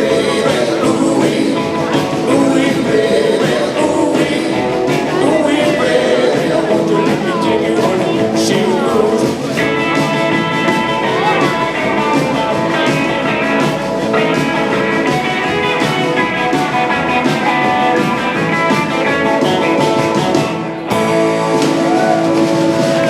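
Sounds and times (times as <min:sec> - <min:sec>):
rock and roll band playing: 0:00.0 - 0:23.0.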